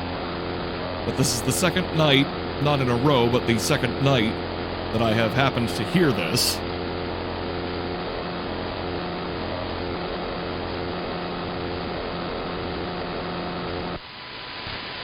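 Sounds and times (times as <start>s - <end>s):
electrical interference buzz: 0.0s - 15.0s
radio static hiss: 0.0s - 15.0s.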